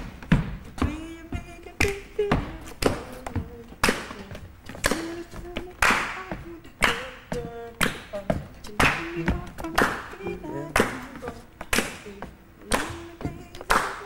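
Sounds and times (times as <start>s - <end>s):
percussive dance beat: 0.0s - 14.0s.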